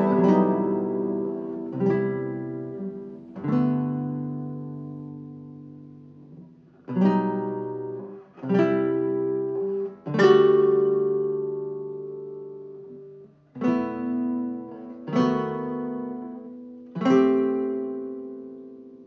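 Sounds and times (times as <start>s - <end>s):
classical guitar chords ringing: 0.0s - 19.0s.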